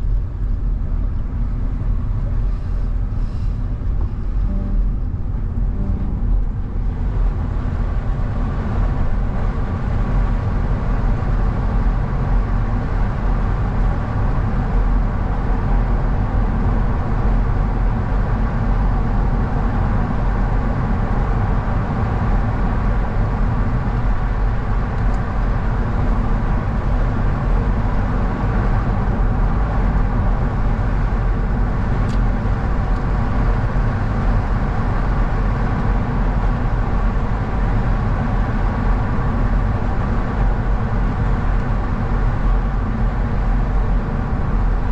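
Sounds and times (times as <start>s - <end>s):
car engine: 0.0s - 44.9s.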